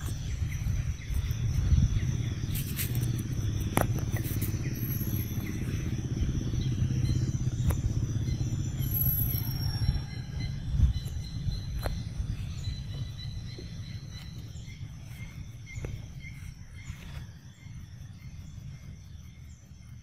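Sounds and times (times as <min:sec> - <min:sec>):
faint high insect-like buzz: 0:00.0 - 0:20.0
low rumble: 0:00.0 - 0:20.0.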